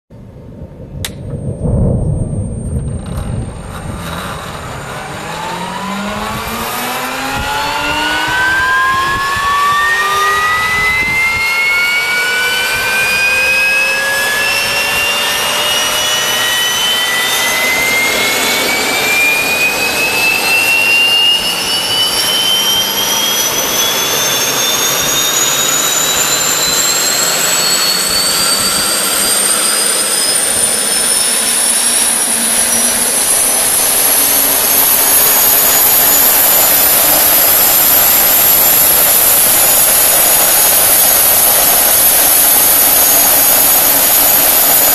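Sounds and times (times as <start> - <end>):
gas turbine whine: 0.1 - 44.9
rushing air noise: 0.1 - 44.9.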